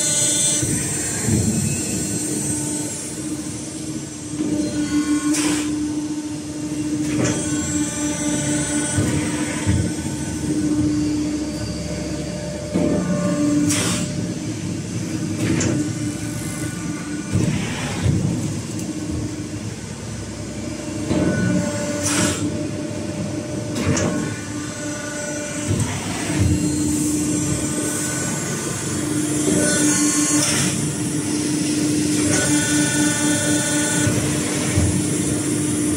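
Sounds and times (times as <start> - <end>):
high machine whine: 0.0 - 35.9
hydraulic machine hum: 0.0 - 35.9.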